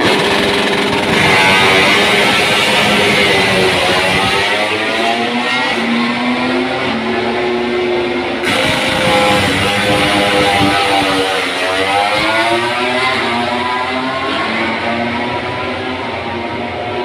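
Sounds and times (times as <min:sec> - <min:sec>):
race bike engines: 0:00.0 - 0:17.0.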